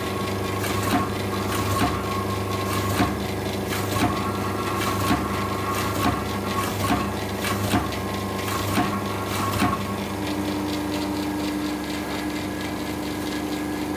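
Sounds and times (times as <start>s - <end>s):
machine motor hum: 0.0s - 13.9s.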